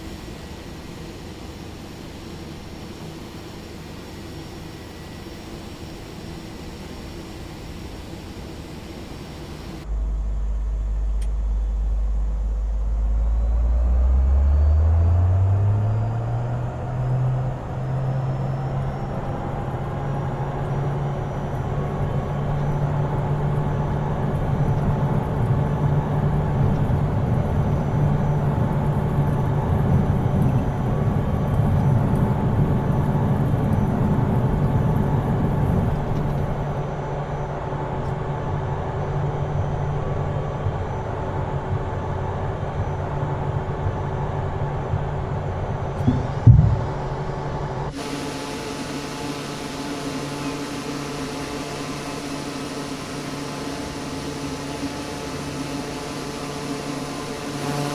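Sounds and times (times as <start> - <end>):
aircraft engine powering up: 0.0 - 57.9.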